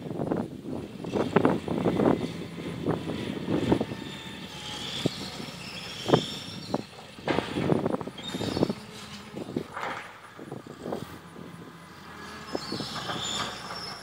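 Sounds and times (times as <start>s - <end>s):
tracked excavator working: 0.0s - 14.0s
high metallic squeals and creaks: 1.0s - 14.0s.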